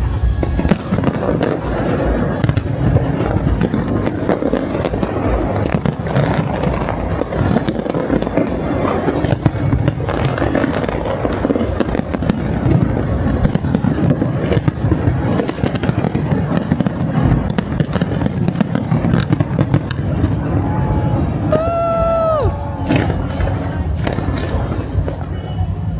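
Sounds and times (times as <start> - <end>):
fireworks bangs and crackle: 0.0 - 25.9.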